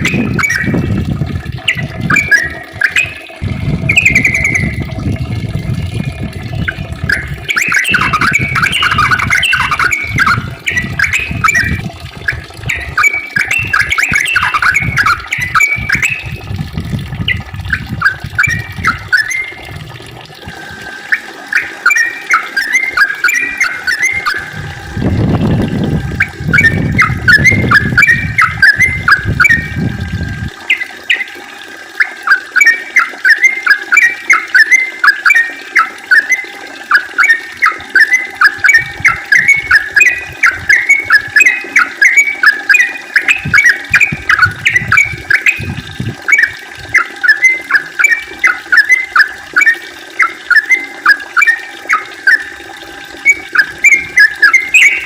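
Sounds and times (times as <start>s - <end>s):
bird singing chattering notes: 0.0s - 5.0s, 5.9s - 19.8s, 21.1s - 24.8s, 26.0s - 30.0s, 30.6s - 31.4s, 32.0s - 52.6s, 53.2s - 55.0s.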